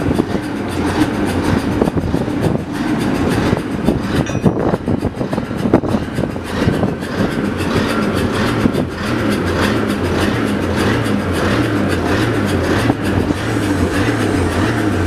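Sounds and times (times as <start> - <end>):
diesel locomotive engine: 0.0 - 15.0
train knocks and clanks: 0.0 - 15.0.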